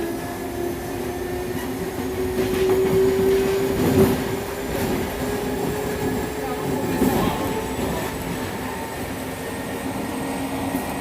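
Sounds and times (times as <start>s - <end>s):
wheels rumbling on rails: 0.0s - 11.0s.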